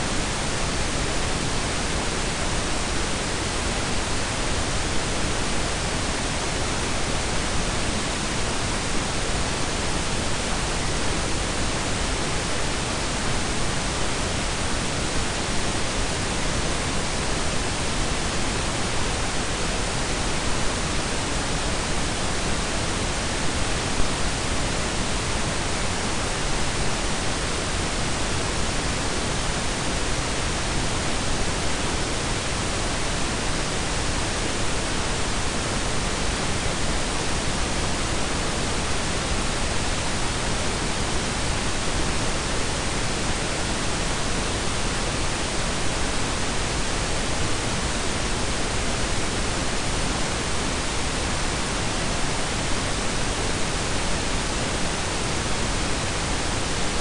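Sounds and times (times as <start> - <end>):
steady synthetic noise hiss: 0.0 - 57.0.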